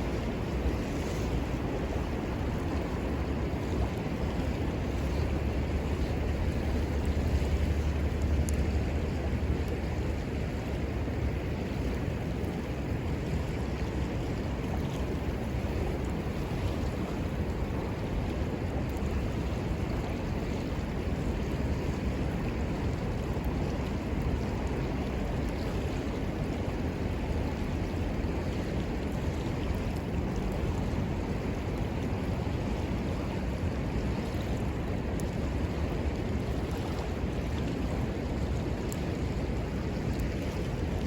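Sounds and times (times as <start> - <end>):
river rushing: 0.0 - 41.0.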